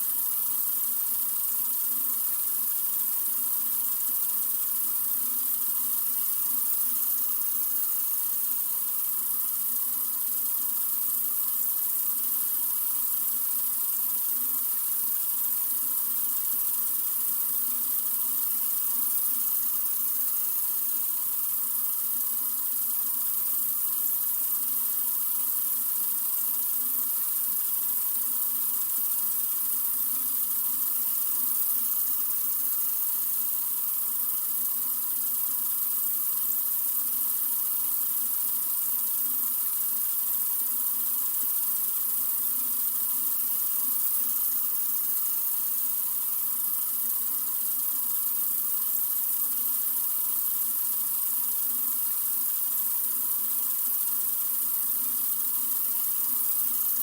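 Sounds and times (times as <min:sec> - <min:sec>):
water running from faucet: 0:00.0 - 0:57.0.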